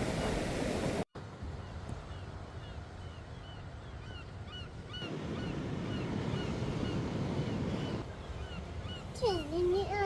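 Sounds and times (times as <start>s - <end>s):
surf on the shore: 0.0s - 10.0s.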